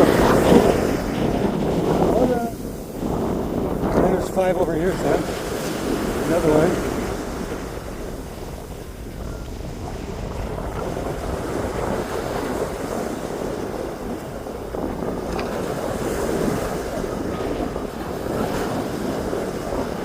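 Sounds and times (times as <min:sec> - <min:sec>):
sea surf: 0:00.0 - 0:20.0
wind on microphone: 0:00.0 - 0:20.0.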